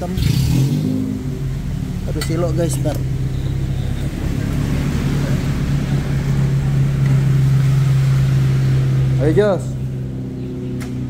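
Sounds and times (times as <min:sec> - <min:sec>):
car engine running deep hum: 0:00.0 - 0:11.0.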